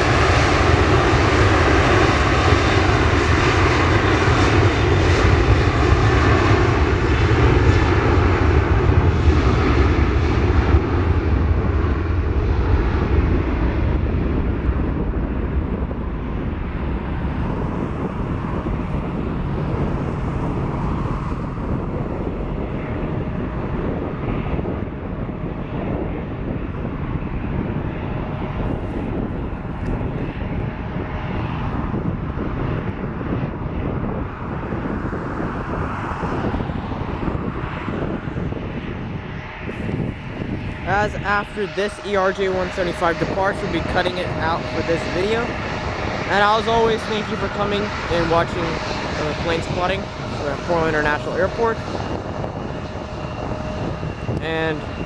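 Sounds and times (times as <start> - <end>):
jet engines at takeoff: 0.0 - 55.0.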